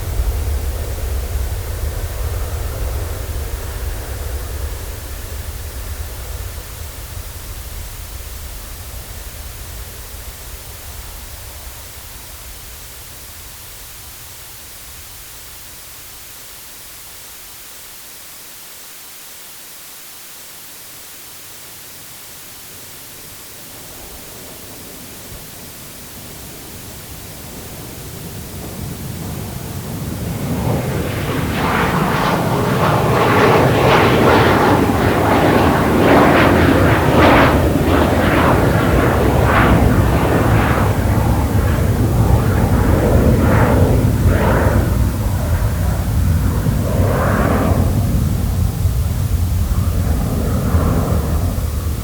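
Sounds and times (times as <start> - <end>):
airplane engine rumble: 0.0 - 16.4, 22.7 - 52.0
steady hiss: 0.0 - 52.0.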